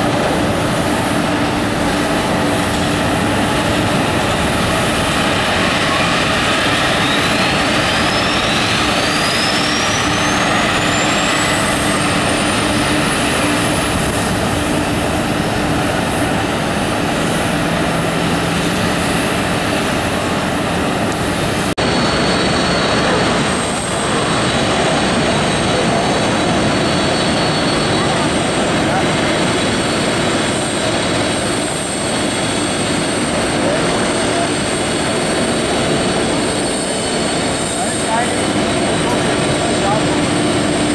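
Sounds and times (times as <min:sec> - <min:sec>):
jet engine roar and whine: 0:00.0 - 0:40.9.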